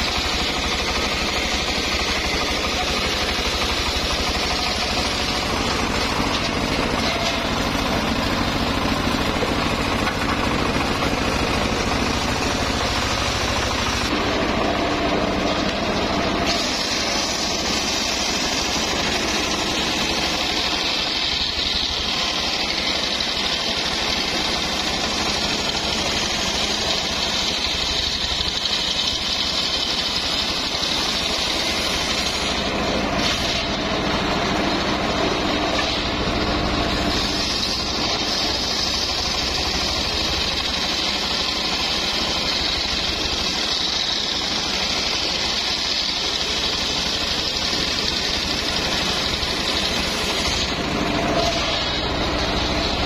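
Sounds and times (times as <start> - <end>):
saw blade whining through wood: 0.0 - 53.0
saw engine droning: 0.0 - 53.0.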